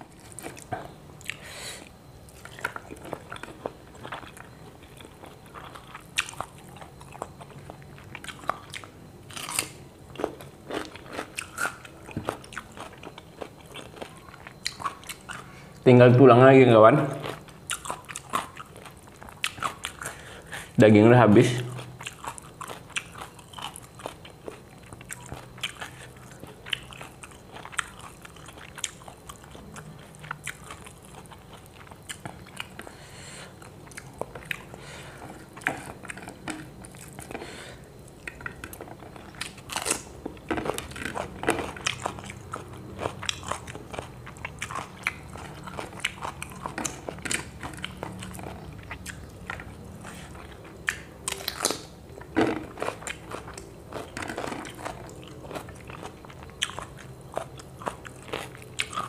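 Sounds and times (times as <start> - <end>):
person chewing and crunching: 0.0 - 15.8, 17.0 - 20.8, 21.5 - 59.0
faint low hum: 0.0 - 59.0.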